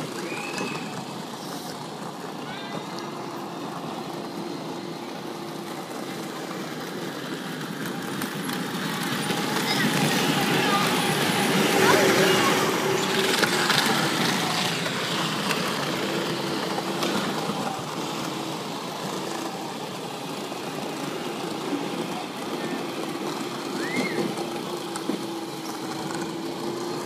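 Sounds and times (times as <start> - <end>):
plastic wheels rolling: 0.0 - 27.0
toy vehicle motors whining: 0.0 - 27.0.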